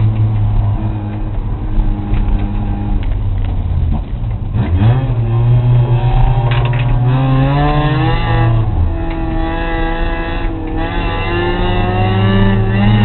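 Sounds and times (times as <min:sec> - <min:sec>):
racing car engine: 0:00.0 - 0:13.0.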